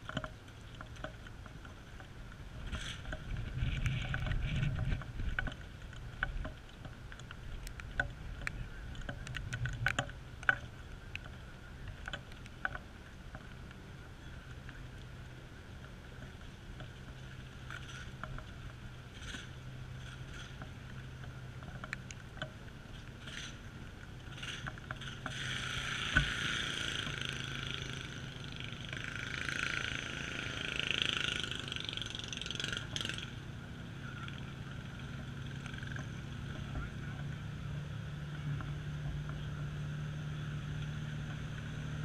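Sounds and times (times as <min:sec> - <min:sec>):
raindrops ticking on camera: 0:00.0 - 0:39.7
steady low hum: 0:00.0 - 0:42.0.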